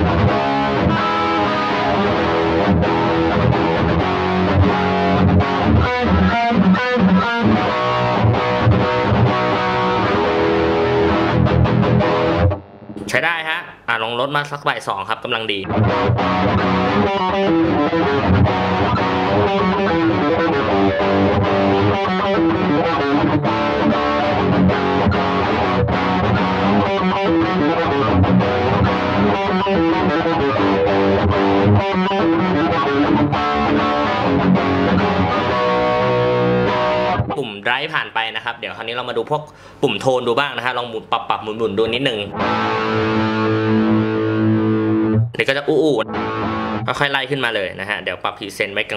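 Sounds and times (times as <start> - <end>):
distorted electric guitar chords: 0.0 - 13.9, 15.6 - 37.5, 41.6 - 47.4.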